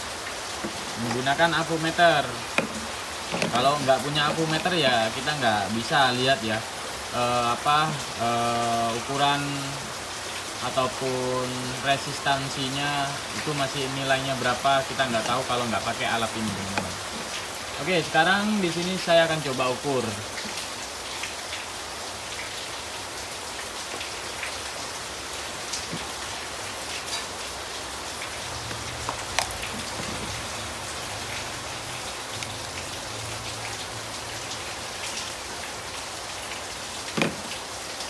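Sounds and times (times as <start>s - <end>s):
rain hissing: 0.0s - 38.0s.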